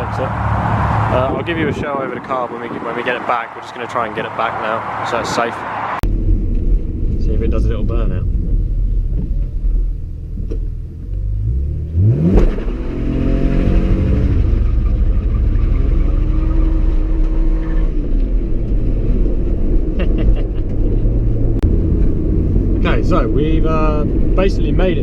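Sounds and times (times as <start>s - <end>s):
car engine revving and accelerating: 0.0s - 9.7s, 10.4s - 25.0s.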